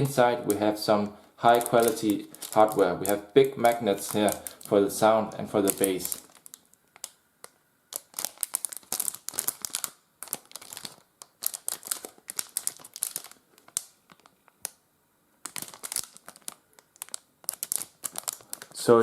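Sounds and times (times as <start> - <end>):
plastic packaging crinkling: 0.0 - 14.8, 15.4 - 19.0.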